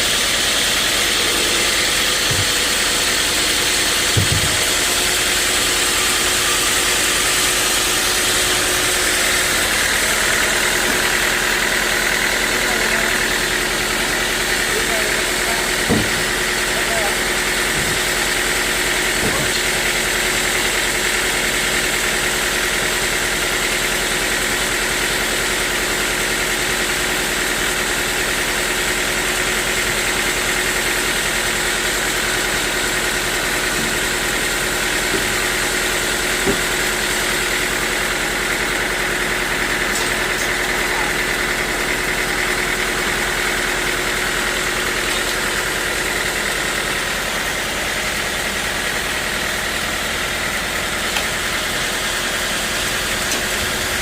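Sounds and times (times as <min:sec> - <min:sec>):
sawmill machinery drone and whine: 0:00.0 - 0:54.0.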